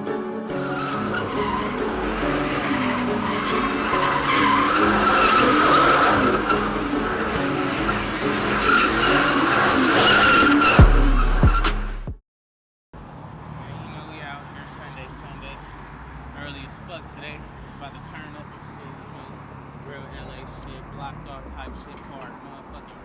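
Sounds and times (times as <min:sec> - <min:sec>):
car engine running hard: 0:00.5 - 0:11.6, 0:13.0 - 0:23.0
car tyres squealing: 0:00.5 - 0:11.9, 0:13.0 - 0:23.0.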